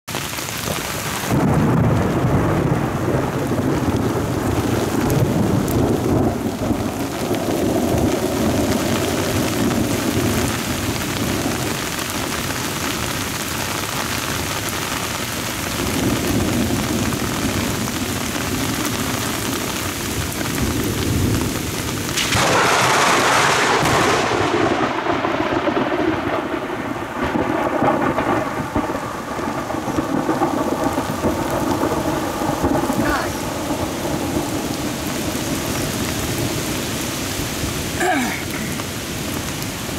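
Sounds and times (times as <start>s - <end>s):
heavy rain on a pond: 0.1s - 39.9s
rolling thunder: 1.0s - 13.2s, 15.4s - 37.9s.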